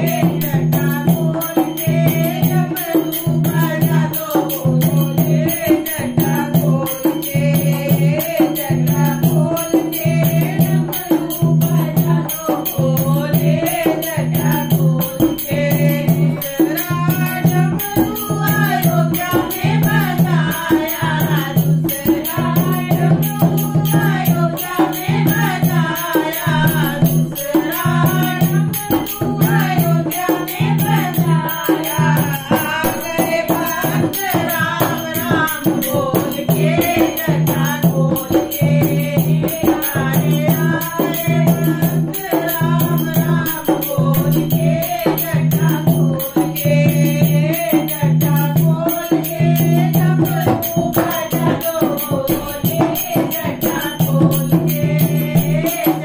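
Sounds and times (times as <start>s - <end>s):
hand drum rhythm: 0.0s - 56.0s
woman singing devotional song: 0.0s - 56.0s.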